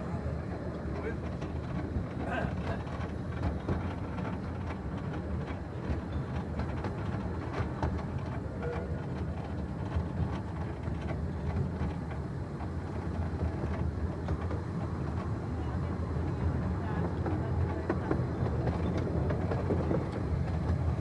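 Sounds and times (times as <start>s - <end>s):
wheels rumbling on rail: 0.0s - 21.0s.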